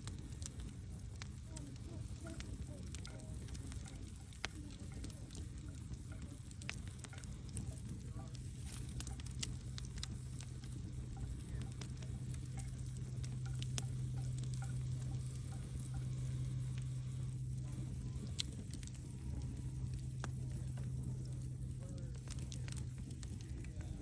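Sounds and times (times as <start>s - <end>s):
low hum: 0.0s - 24.0s
wood fire crackling: 0.0s - 24.0s.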